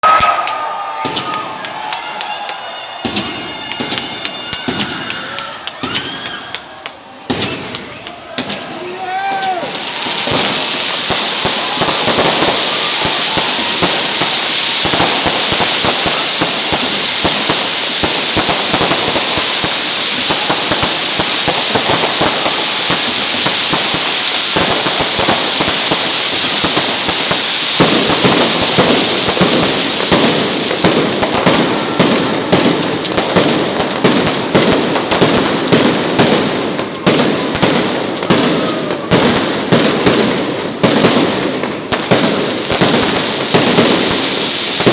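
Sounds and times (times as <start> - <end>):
fireworks crackling and popping: 0.0 - 44.9.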